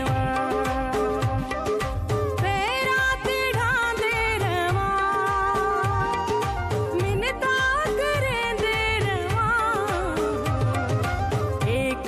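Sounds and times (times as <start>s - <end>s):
song with drum beat: 0.0s - 12.0s.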